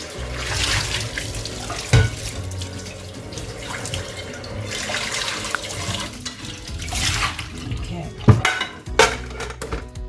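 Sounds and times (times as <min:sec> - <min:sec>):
pan being washed: 0:00.0 - 0:10.0
tap water running into sink: 0:00.0 - 0:10.0.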